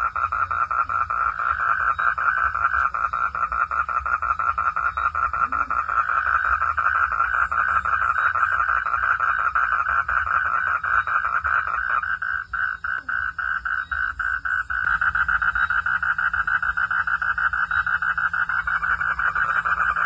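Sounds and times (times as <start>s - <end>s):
frogs calling in chorus: 0.0s - 20.0s.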